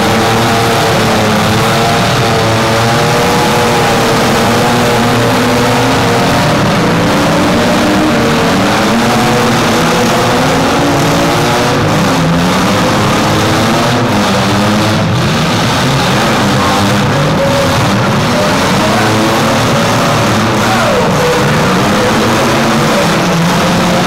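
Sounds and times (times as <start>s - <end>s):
engines revving: 0.0s - 24.0s.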